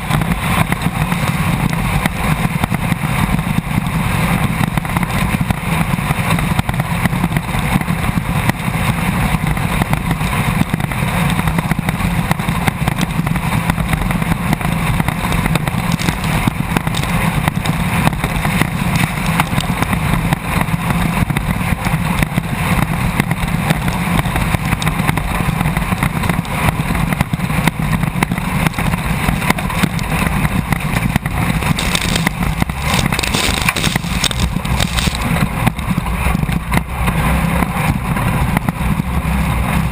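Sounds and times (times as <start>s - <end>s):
rattling and knocking of car: 0.0s - 39.0s
buggy engine running hard: 0.0s - 39.9s.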